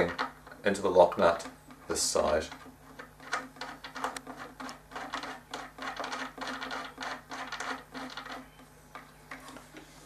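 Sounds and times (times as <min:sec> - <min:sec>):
plastic part scratching and clicking: 0:01.2 - 0:09.5.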